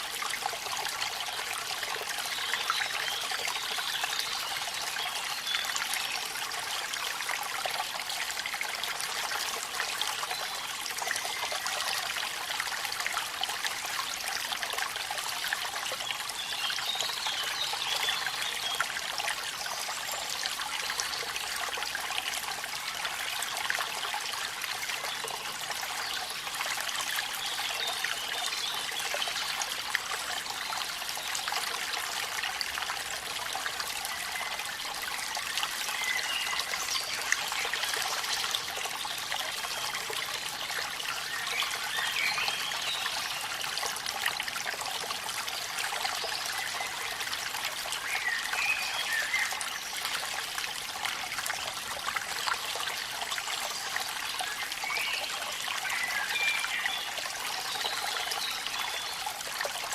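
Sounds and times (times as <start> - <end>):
falling water trickling and splashing: 0.0 - 59.9.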